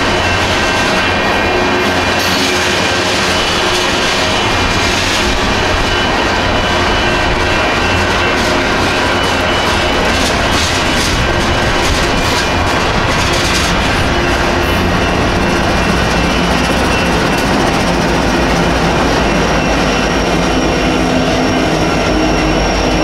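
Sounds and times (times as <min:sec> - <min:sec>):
wheels clacking over rail joints: 0:00.0 - 0:22.8
railroad crossing bell: 0:00.0 - 0:23.0
train wheels rumbling on rails: 0:00.0 - 0:23.0.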